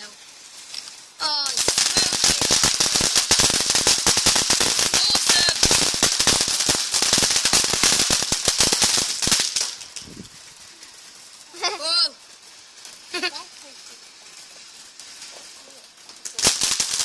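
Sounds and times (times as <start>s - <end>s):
ground firework crackling: 0.0s - 17.0s.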